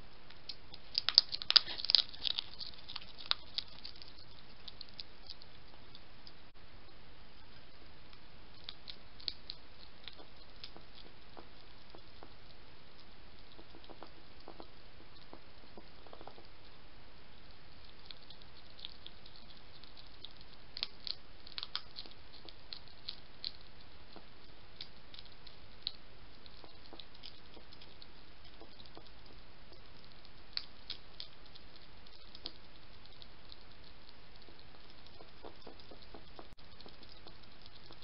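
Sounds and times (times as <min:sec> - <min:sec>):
hedgehog crunching food: 0:00.2 - 0:06.4, 0:08.1 - 0:38.0.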